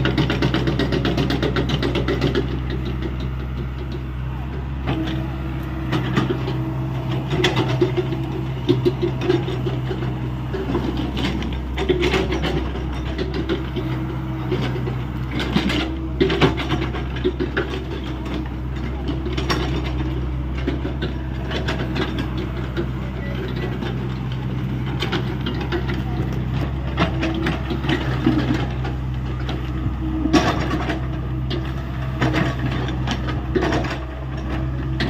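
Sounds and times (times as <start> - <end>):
excavator diesel engine: 0.0 - 35.0
clanks and scrapes: 5.9 - 35.0.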